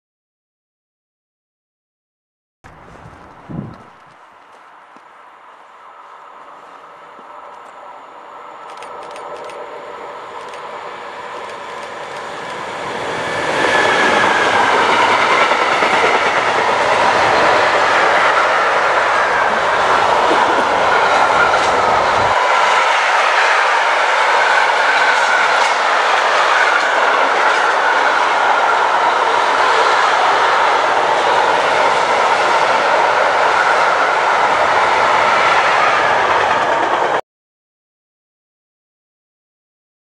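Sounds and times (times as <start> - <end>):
freight train wheels rumbling: 2.7 - 37.2.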